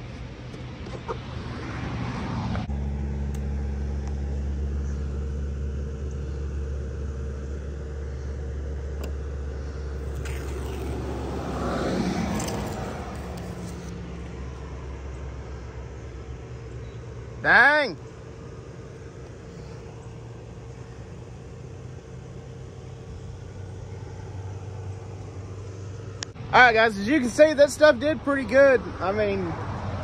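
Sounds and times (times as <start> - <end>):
low vehicle engine hum: 0.0 - 30.0
vehicle passing: 0.6 - 5.7, 9.7 - 30.0.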